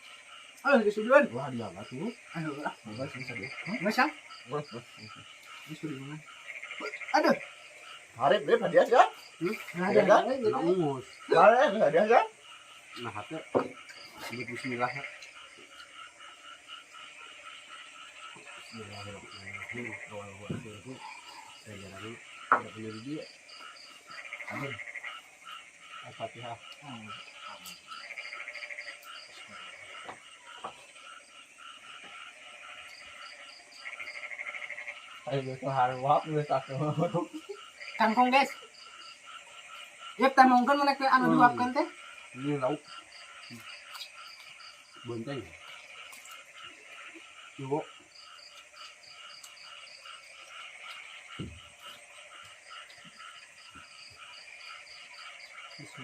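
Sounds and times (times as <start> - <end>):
frogs calling: 0.0 - 56.0
frog trill: 0.4 - 56.0.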